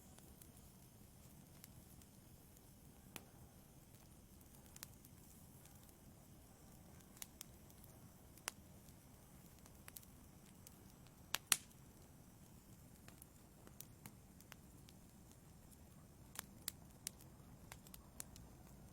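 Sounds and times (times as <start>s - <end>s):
wood fire crackling and popping: 0.0s - 18.9s.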